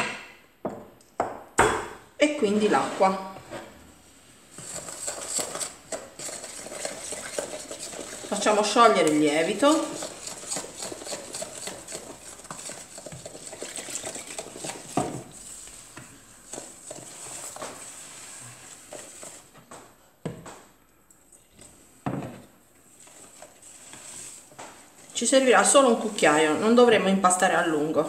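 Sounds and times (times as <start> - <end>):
wooden spoon scraping plastic bowl: 2.4 - 19.6, 21.6 - 28.0.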